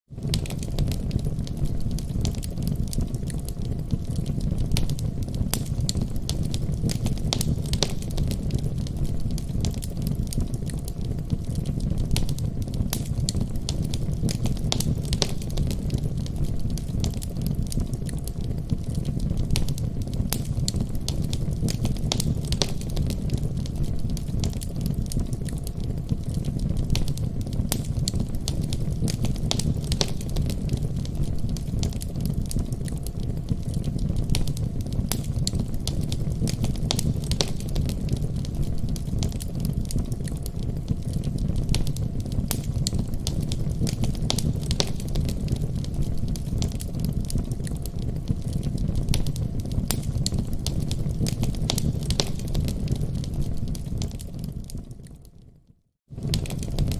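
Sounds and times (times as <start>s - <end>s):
fire crackling and popping: 0.1s - 56.9s
low fire rumble: 0.1s - 56.9s.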